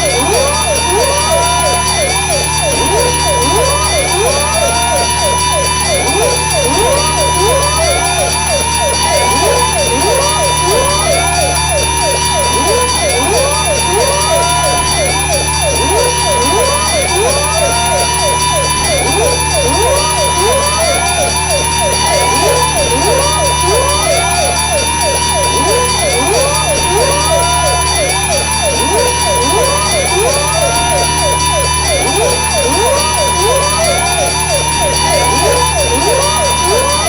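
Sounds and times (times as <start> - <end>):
rising synthetic siren-like sweeps: 0.0 - 37.0.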